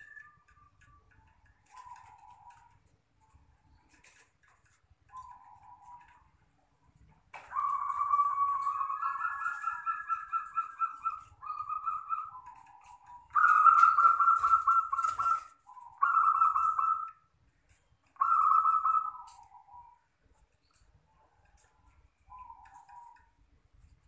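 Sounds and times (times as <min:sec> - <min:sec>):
dove cooing: 0:00.0 - 0:04.2, 0:05.1 - 0:06.5, 0:07.3 - 0:17.2, 0:18.2 - 0:20.1, 0:21.5 - 0:23.4.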